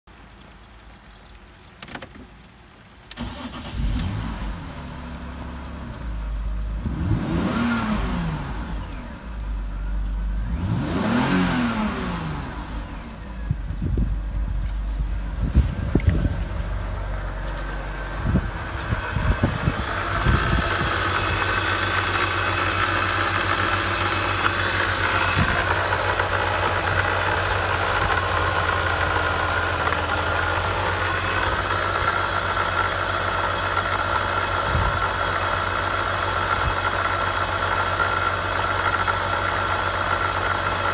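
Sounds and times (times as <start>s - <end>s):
car engine idling: 3.0s - 40.9s
car engine starting and revving: 3.1s - 40.9s.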